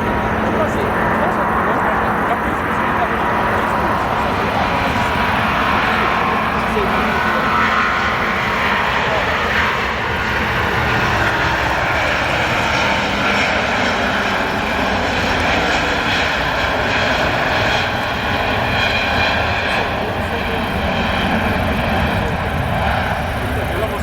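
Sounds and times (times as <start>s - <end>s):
jet engines with fan whine: 0.0s - 24.0s.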